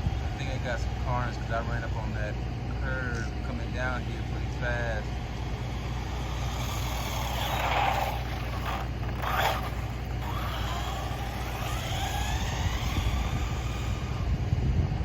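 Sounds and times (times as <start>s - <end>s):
electric motor whine: 0.0s - 15.0s
steady low rumble: 0.0s - 15.0s.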